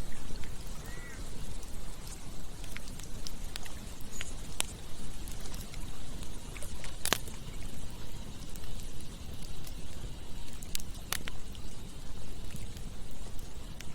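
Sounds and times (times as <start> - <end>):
campfire crackling and popping: 0.0 - 13.9
low fire rumble: 0.0 - 13.9.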